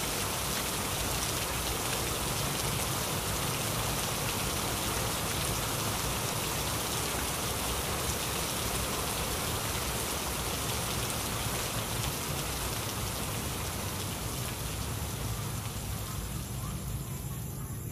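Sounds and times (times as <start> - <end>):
heavy rain falling: 0.0 - 17.3.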